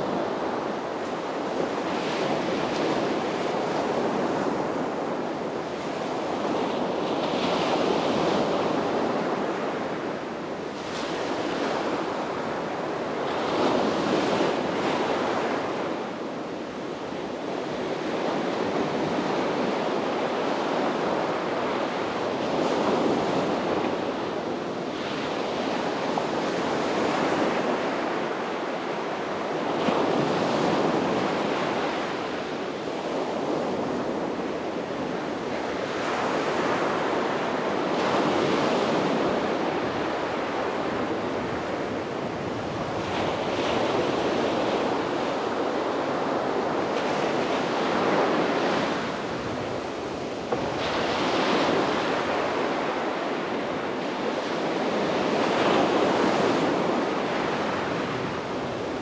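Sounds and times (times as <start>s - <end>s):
sea waves breaking on beach: 0.0s - 59.0s
wind noise on microphone: 0.0s - 59.0s.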